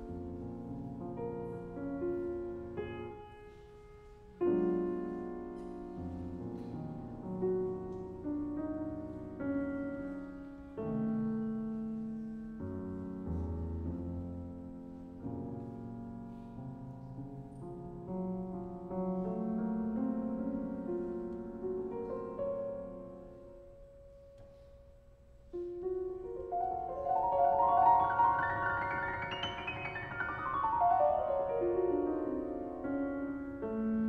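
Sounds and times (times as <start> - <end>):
grand piano playing: 0.0 - 34.0.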